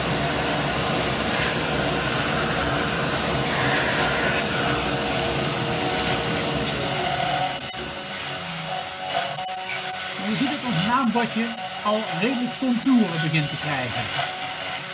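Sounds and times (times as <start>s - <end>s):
router spindle whine: 0.0s - 14.9s
vacuum cleaner running: 0.0s - 14.9s.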